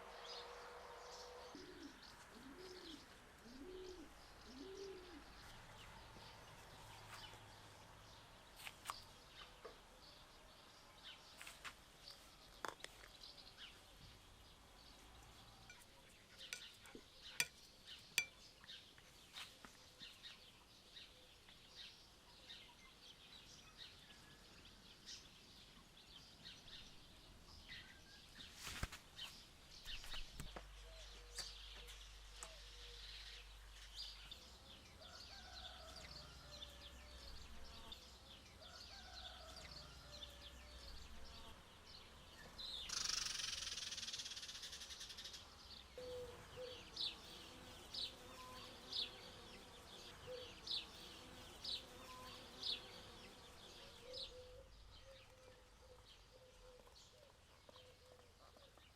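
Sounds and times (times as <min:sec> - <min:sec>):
faint birds chirping: 0:00.0 - 0:58.9.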